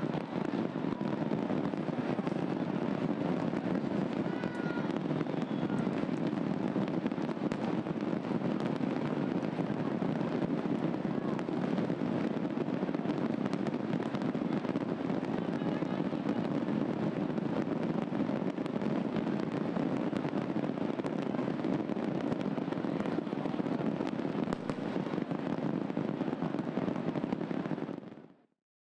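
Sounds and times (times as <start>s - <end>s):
steady rushing noise: 0.0s - 27.8s
firecrackers crackling: 0.0s - 28.4s.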